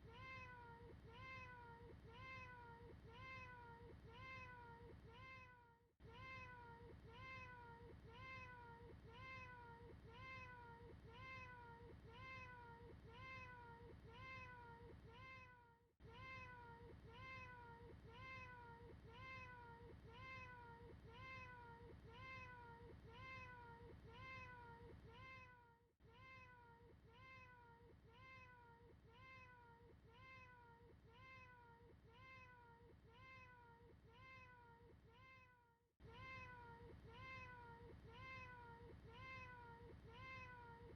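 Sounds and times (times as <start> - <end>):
faint cat meow: 0.0 - 40.9.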